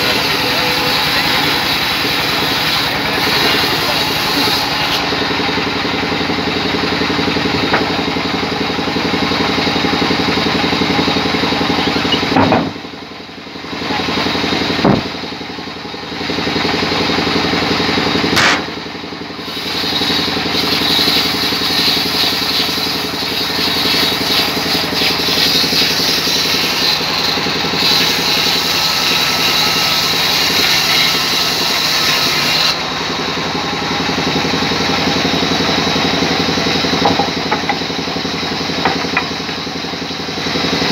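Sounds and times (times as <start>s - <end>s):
saw blade cutting log: 0.0s - 13.0s, 13.6s - 15.4s, 16.1s - 40.9s
band saw machine hum: 0.0s - 40.9s.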